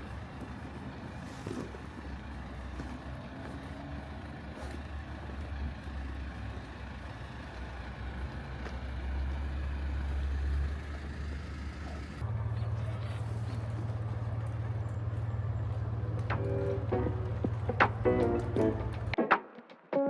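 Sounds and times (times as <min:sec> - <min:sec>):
road noise: 0:00.0 - 0:19.2
vehicle engine rumble: 0:00.0 - 0:19.2.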